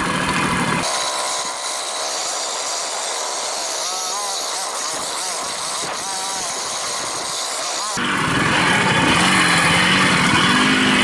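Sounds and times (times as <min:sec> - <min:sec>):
moped two-stroke engine: 0:00.0 - 0:11.0.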